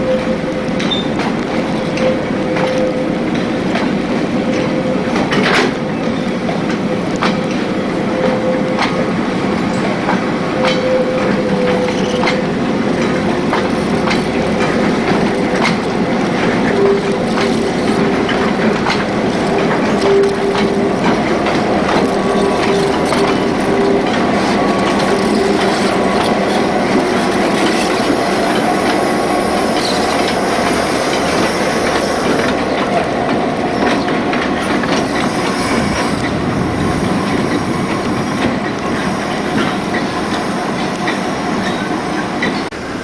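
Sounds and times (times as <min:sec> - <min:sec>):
locomotive engine running: 0:00.0 - 0:43.0
train wheels clicking over rail joints: 0:00.0 - 0:43.0.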